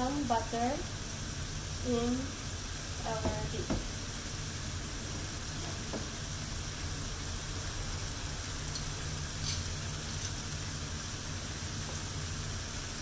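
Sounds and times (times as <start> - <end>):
steak sizzling in a frying pan: 0.0 - 13.0.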